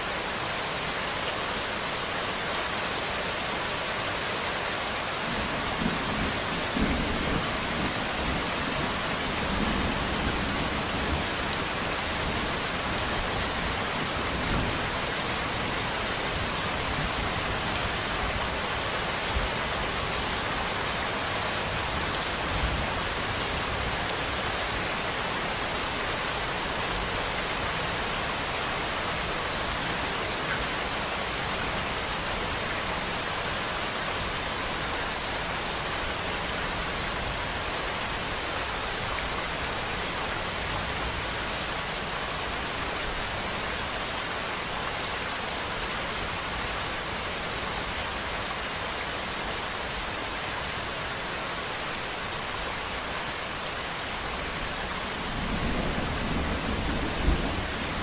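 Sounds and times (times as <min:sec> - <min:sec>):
rain falling on surfaces: 0:00.0 - 0:58.0.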